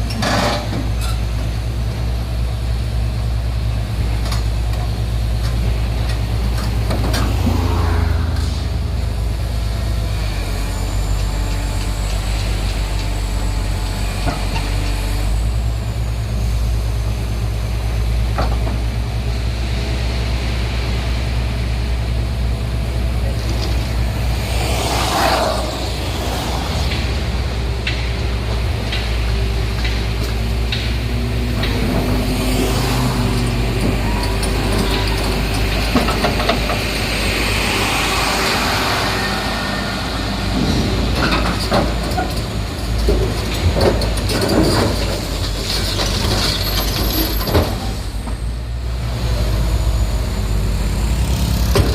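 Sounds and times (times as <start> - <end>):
heavy diesel engine rumbling: 0.0 - 51.9.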